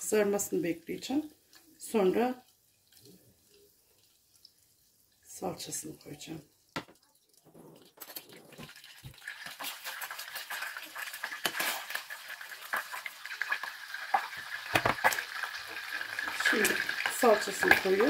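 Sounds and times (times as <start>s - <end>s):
butter sizzling in saucepan: 0.0s - 18.0s.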